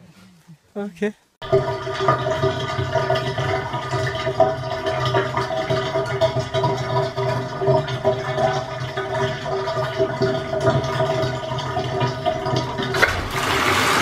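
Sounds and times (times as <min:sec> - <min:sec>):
bathtub water draining gurgle: 0:01.4 - 0:14.0.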